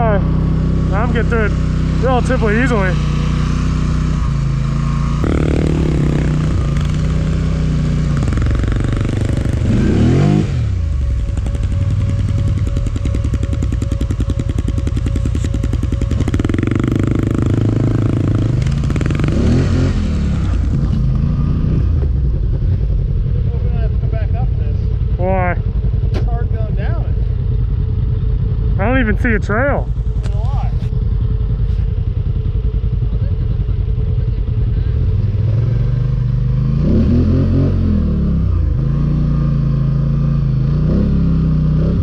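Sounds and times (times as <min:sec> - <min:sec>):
atv engine revving: 0:00.0 - 0:42.0.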